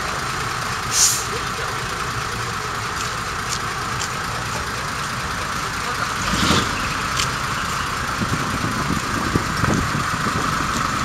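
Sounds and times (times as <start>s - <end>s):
diesel trucks idling: 0.0s - 11.0s.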